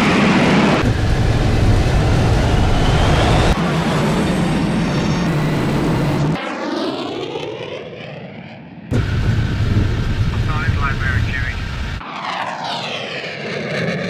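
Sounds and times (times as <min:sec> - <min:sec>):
jet engine at takeoff: 0:00.0 - 0:14.0
jet passing by: 0:00.0 - 0:14.0.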